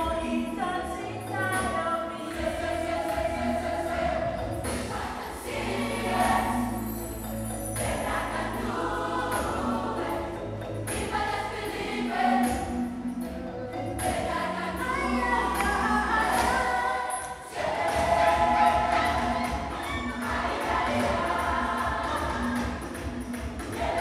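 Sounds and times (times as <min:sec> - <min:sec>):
children's choir singing: 0:00.0 - 0:24.0.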